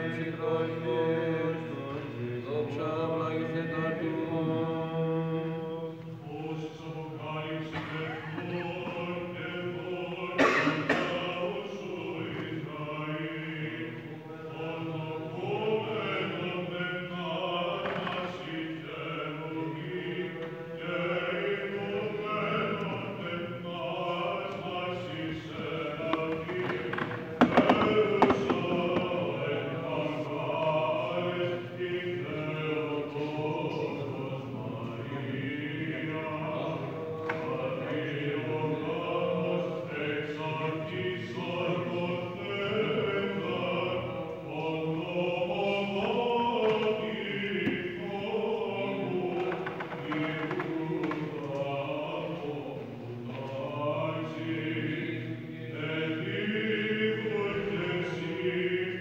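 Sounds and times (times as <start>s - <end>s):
male voices chanting: 0.0s - 59.0s.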